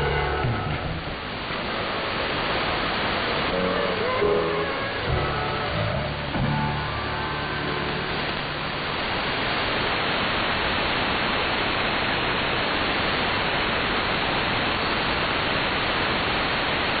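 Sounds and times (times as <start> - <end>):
shortwave radio static: 0.0 - 17.0.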